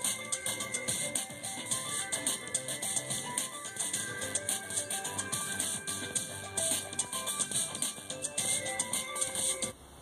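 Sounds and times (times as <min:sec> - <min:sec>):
music through car speakers: 0:00.0 - 0:09.8.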